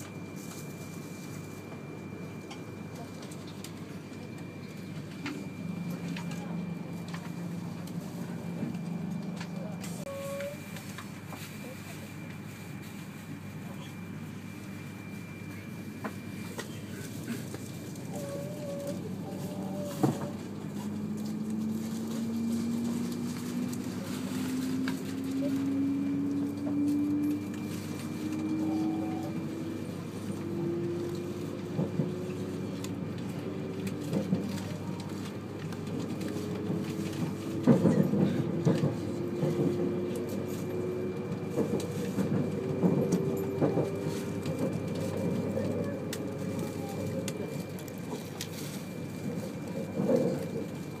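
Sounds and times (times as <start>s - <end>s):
train motor whine: 0.0s - 51.0s.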